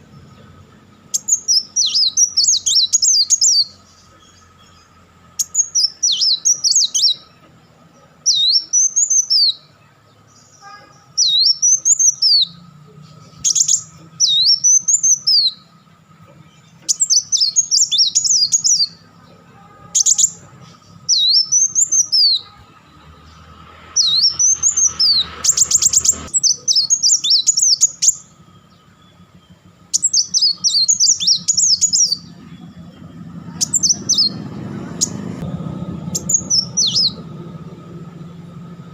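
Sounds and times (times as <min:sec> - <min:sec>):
sunbird singing high sharp notes: 0:00.0 - 0:38.9.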